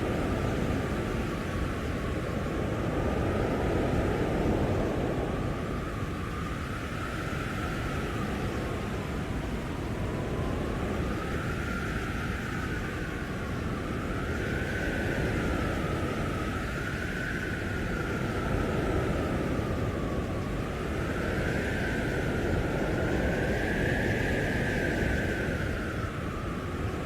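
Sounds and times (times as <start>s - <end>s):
howling wind whistle: 0.0s - 27.0s.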